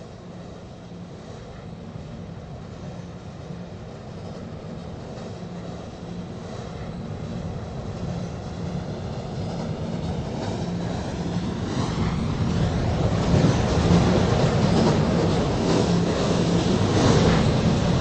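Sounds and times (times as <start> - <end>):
subway train rumble and hum: 0.0 - 18.0.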